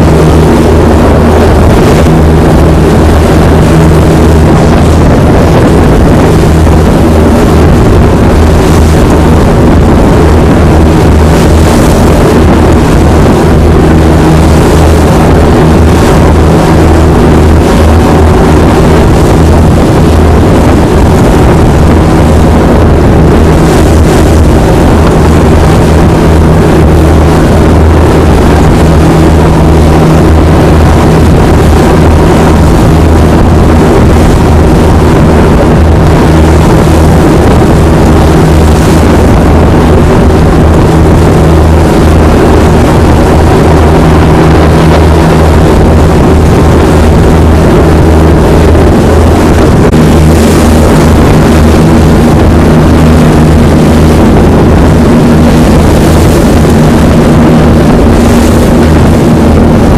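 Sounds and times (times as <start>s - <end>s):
diesel boat engines running: 0.0s - 59.9s.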